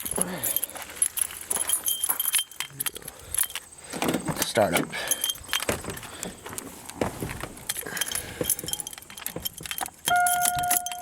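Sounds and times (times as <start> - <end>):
car keys jangling: 0.0 - 3.7, 4.6 - 6.4, 7.5 - 11.0.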